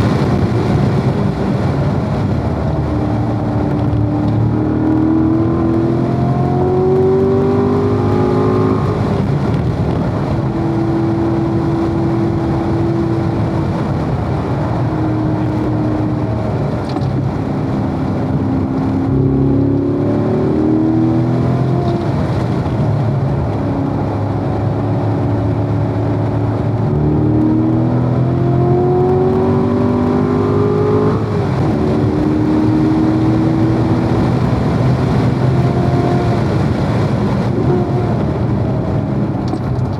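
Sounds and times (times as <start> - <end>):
car engine at track speed: 0.0 - 39.9
wind and road noise: 0.0 - 39.9.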